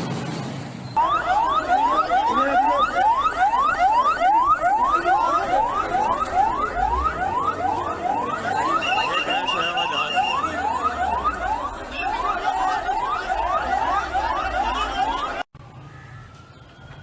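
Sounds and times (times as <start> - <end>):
electronic siren yelp: 1.0 - 15.5.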